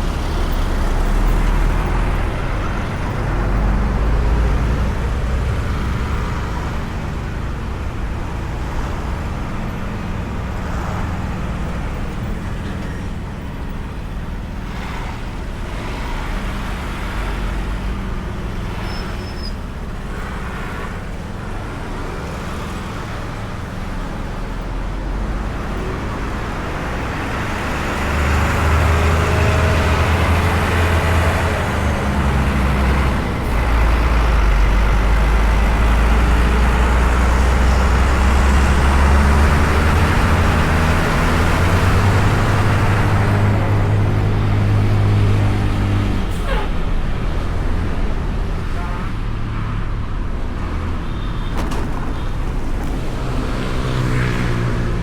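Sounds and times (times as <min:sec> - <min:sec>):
city traffic: 0:00.0 - 0:55.0
scooter engine and road noise: 0:00.0 - 0:55.0.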